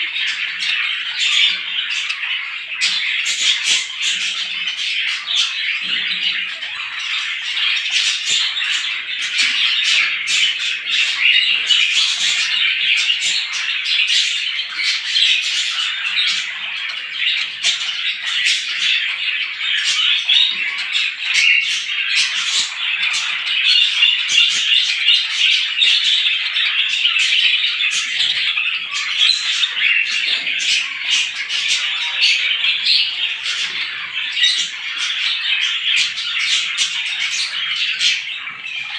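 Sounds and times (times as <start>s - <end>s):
flock of small birds chirping: 0.0s - 38.9s.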